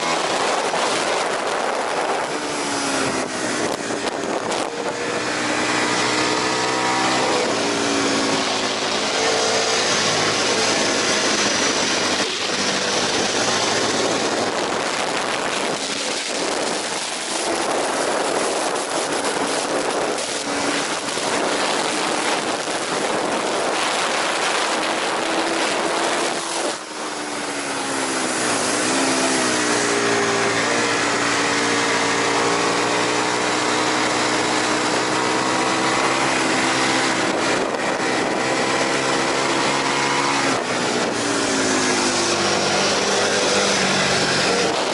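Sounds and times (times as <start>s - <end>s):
heavy rushing noise: 0.0s - 44.9s
motorcycle engine at high revs: 0.0s - 44.9s.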